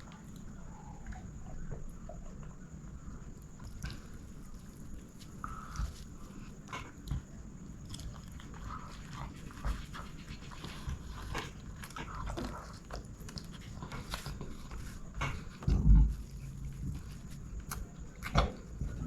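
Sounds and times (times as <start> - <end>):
chewing and mouth smacks: 3.4 - 19.0.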